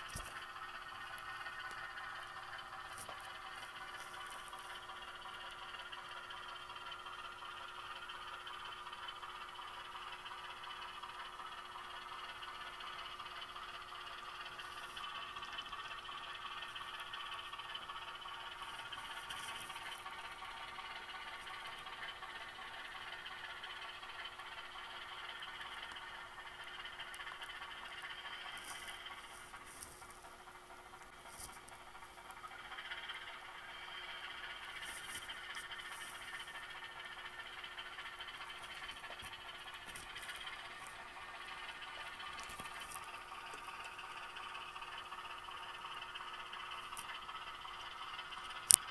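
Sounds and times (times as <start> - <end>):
faint ticks: 0.0 - 48.9
model locomotive diesel engine sound: 0.0 - 48.9.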